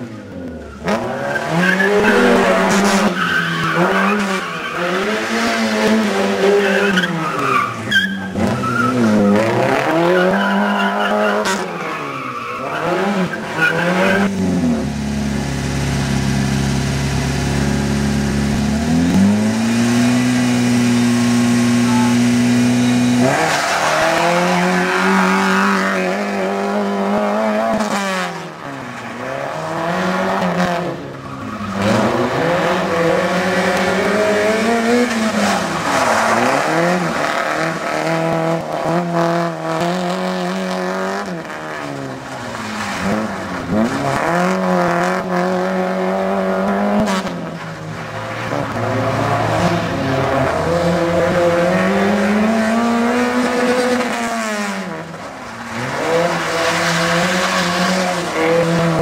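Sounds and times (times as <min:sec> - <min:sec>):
car engine revving: 0:00.6 - 0:28.6, 0:29.2 - 0:59.0.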